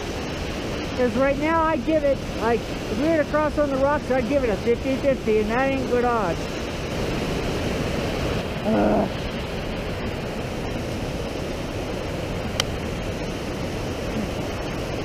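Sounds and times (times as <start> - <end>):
creek rushing over boulders: 0.0 - 15.0.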